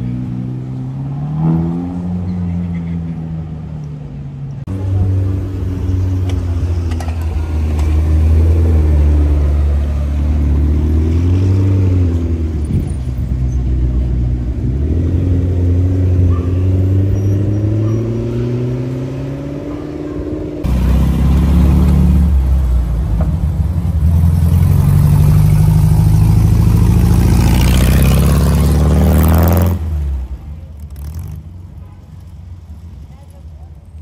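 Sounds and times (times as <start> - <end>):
sports car engine: 0.0 - 31.7.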